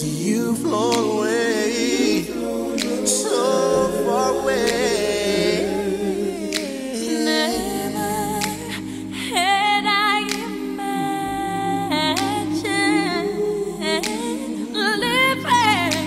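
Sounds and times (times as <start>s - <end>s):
a cappella group singing: 0.0s - 16.0s.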